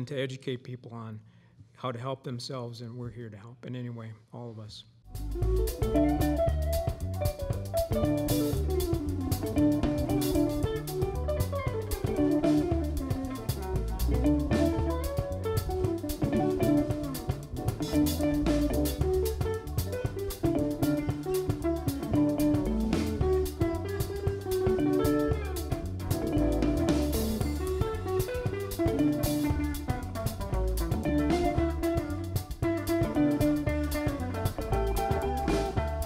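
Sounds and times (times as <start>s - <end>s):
acoustic bass guitar: 5.1s - 36.0s
drum kit: 5.1s - 36.0s
electric guitars picking melody: 5.1s - 36.0s.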